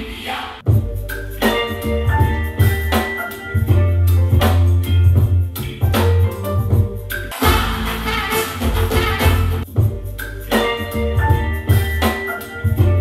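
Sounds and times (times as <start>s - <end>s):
electronic music with heavy bass: 0.0s - 13.0s.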